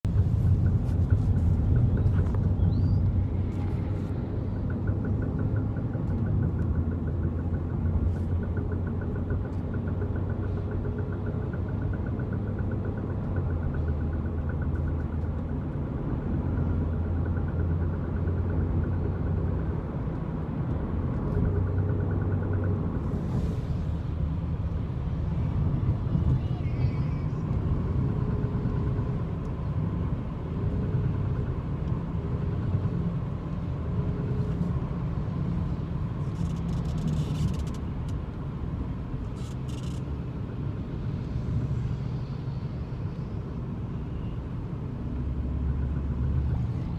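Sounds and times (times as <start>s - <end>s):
car engine and road drone: 0.0s - 46.9s.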